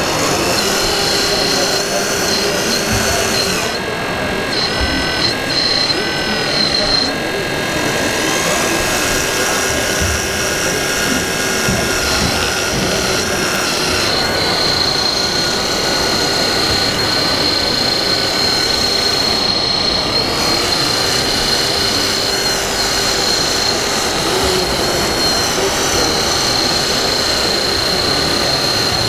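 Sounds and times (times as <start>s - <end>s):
dense background din: 0.0s - 29.0s
hydraulic pump whining: 0.0s - 29.0s.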